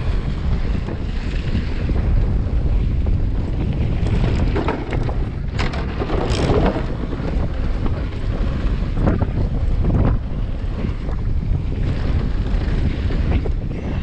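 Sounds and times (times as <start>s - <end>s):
bike rattling: 0.0s - 14.0s
wind buffeting microphone: 0.0s - 14.0s.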